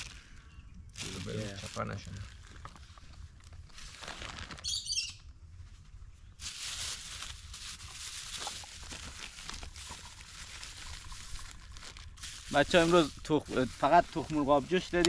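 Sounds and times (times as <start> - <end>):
plastic bag rustling: 1.0 - 4.9, 6.4 - 15.0.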